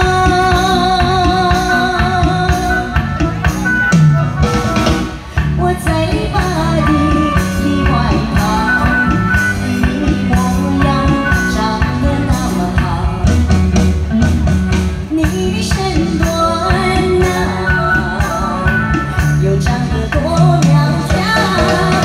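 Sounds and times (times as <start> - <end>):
woman singing into microphone: 0.0 - 4.0, 5.3 - 13.8, 15.0 - 22.0
amplified music with drum beat: 0.0 - 22.0.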